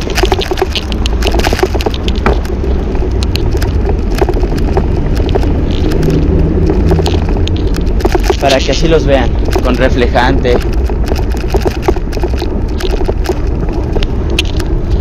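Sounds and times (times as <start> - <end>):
small clicks and rattles: 0.0 - 15.0
wind and road rumble: 0.0 - 15.0.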